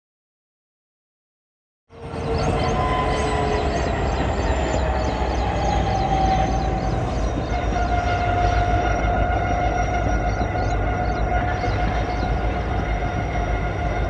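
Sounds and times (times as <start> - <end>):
diesel locomotive engine rumble: 1.9 - 14.0
locomotive high whine: 1.9 - 14.0.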